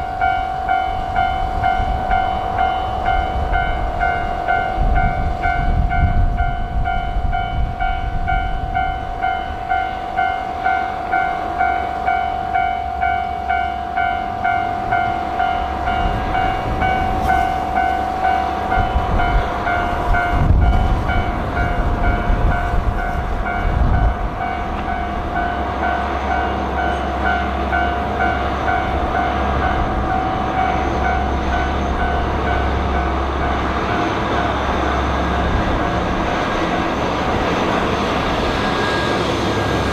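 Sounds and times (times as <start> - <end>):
diesel train rumbling past: 0.0 - 39.9.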